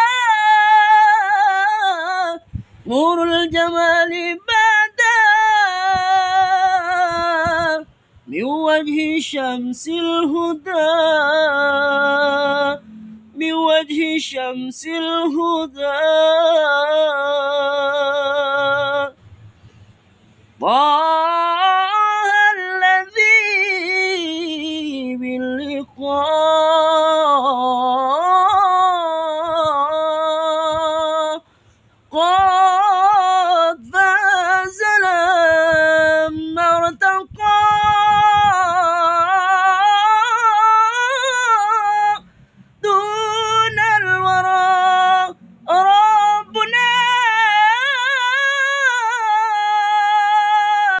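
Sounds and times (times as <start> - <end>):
high voice singing devotional song: 0.0 - 51.0.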